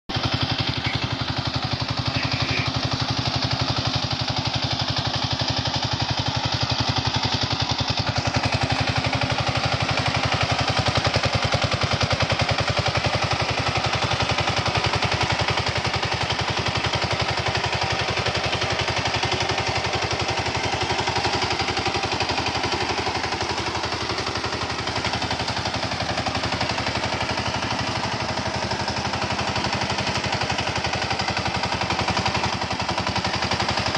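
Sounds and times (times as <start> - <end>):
tiller engine running with exhaust pops: 0.1 - 33.9.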